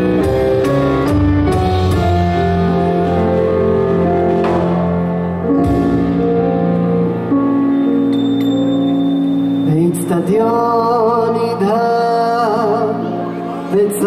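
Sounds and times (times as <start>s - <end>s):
stage piano long held notes: 0.0s - 14.0s.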